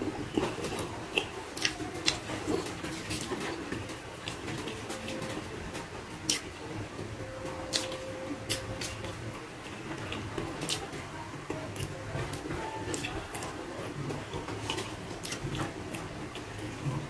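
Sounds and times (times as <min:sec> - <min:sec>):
chewing with wet mouth smacks: 0:00.1 - 0:05.2, 0:06.1 - 0:06.6, 0:07.7 - 0:17.0.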